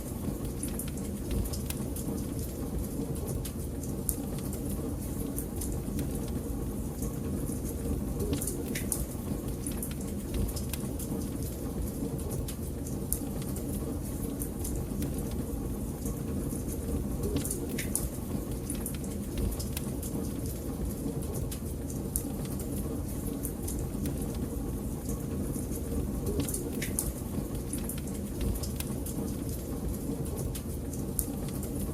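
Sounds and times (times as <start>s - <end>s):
fire roaring in fireplace: 0.0s - 31.9s
wood fire snapping and popping: 0.1s - 31.9s.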